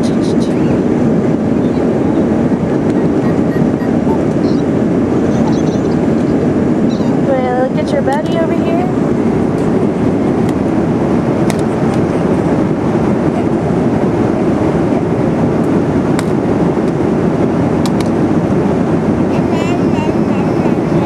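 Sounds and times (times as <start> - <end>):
airliner engine and airflow rumble: 0.0 - 21.0.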